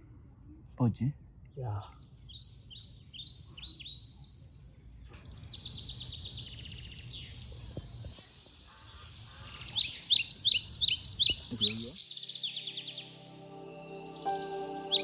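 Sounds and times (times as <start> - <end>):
small birds chirping: 0.7 - 15.0.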